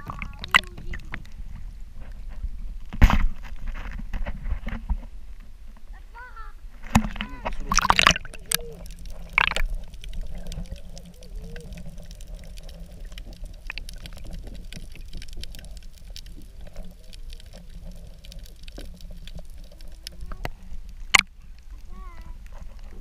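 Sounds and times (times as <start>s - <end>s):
underwater clicks and crackles: 0.0s - 5.9s, 6.7s - 23.0s
muffled underwater rumble: 0.0s - 23.0s.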